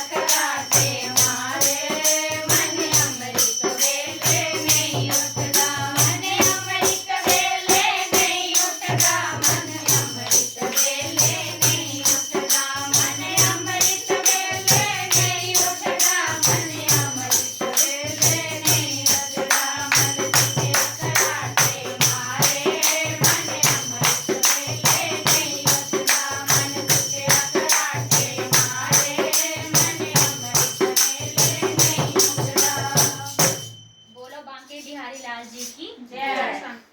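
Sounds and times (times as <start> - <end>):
group singing devotional song: 0.0 - 33.7, 36.1 - 36.9
jingling tambourine beat: 0.0 - 35.9.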